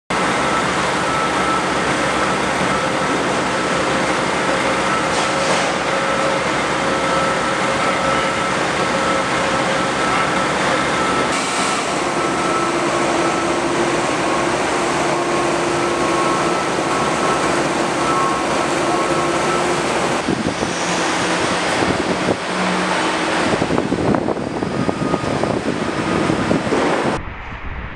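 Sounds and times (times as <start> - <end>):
heavy construction machinery drone: 0.1 - 27.9.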